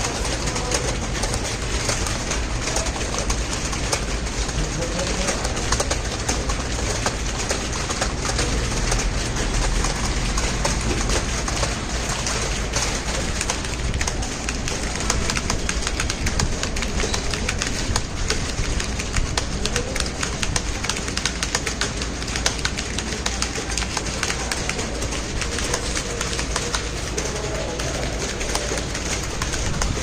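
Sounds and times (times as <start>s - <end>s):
fast keyboard typing: 0.0s - 30.0s.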